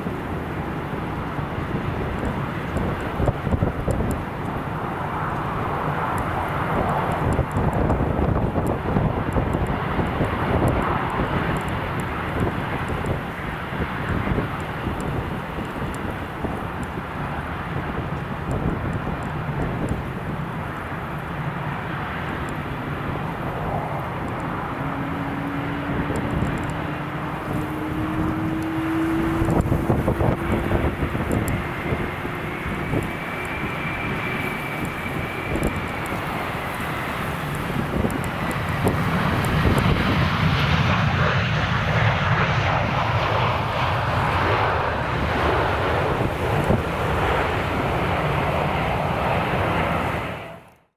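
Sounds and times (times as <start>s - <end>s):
jet airliner engine noise: 0.0s - 50.9s.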